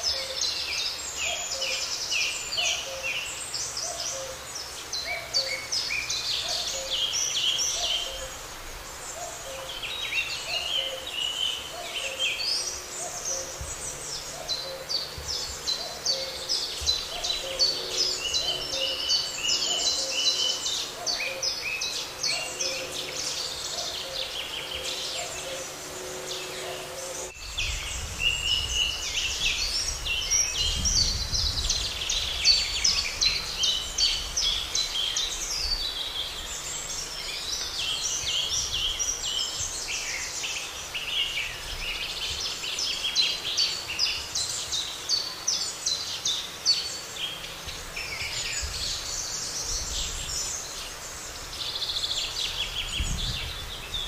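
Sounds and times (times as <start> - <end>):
songbirds chorus: 0.0 - 54.0.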